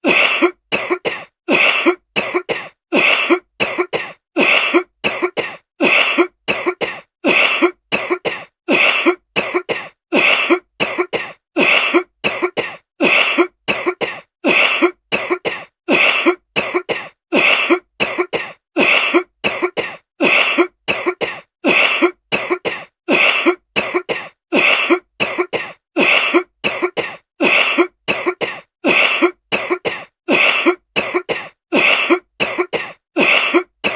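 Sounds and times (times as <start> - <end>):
woman coughing: 0.0 - 33.9.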